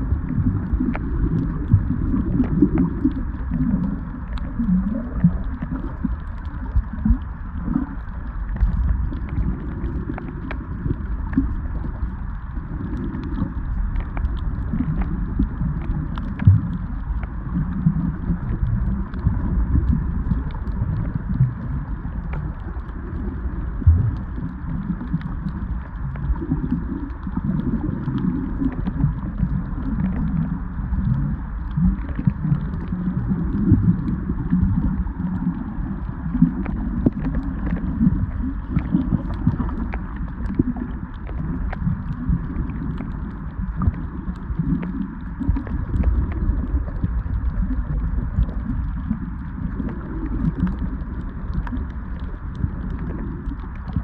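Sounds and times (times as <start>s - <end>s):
underwater water rumble: 0.0s - 54.0s
faint clicks: 2.3s - 54.0s.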